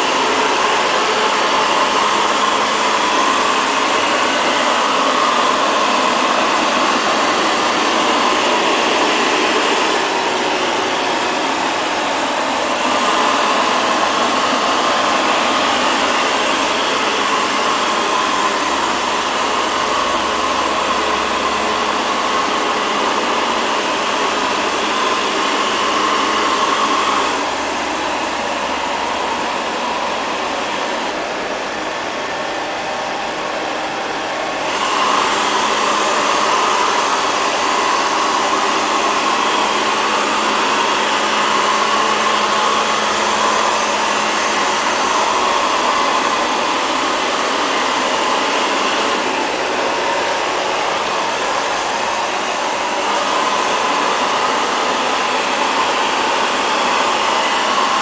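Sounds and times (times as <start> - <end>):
robot vacuum cleaner whirring: 0.0 - 58.0.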